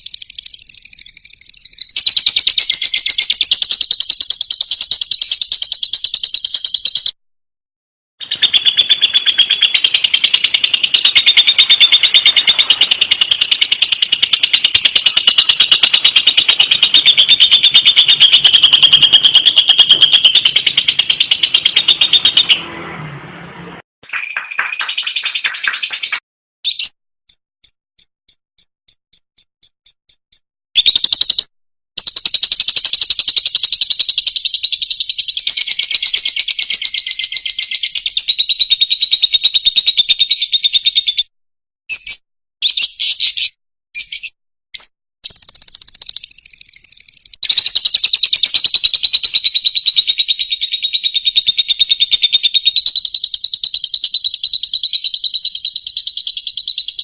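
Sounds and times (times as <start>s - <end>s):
lovebird chirping and chattering: 0.0s - 7.2s, 8.2s - 22.7s, 24.1s - 27.0s, 28.3s - 41.3s, 41.9s - 57.0s.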